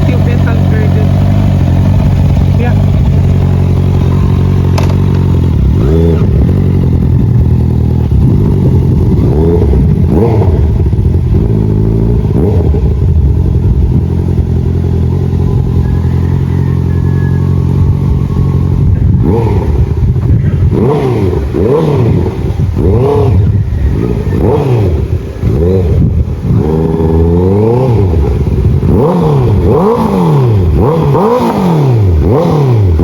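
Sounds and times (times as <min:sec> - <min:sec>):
motorcycle engine idling: 0:00.0 - 0:33.0
motorcycle throttle blips: 0:00.0 - 0:33.0.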